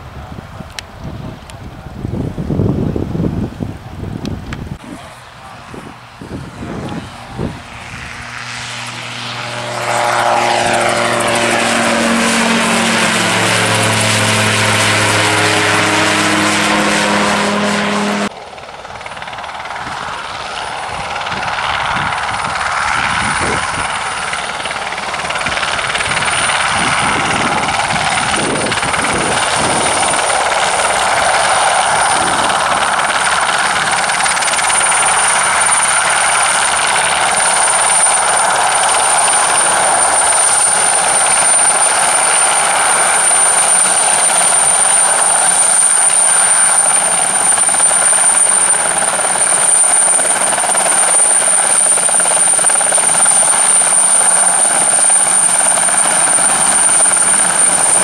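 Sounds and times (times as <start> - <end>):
helicopter rotor and turbine whine: 0.0 - 58.0.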